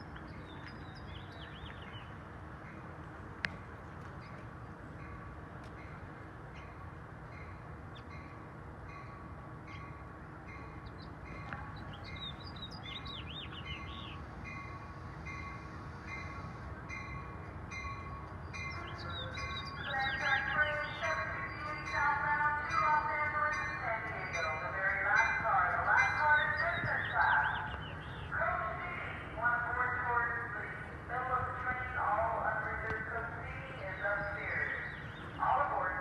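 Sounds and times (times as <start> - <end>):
birds chirping: 0.0 - 2.3, 9.1 - 36.0
train low rumble: 0.0 - 36.0.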